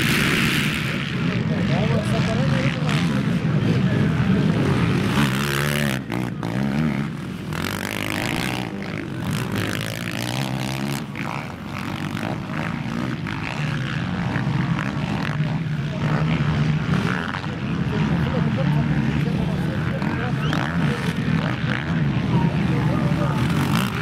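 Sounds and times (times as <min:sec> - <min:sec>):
quad engines revving: 0:00.0 - 0:24.0.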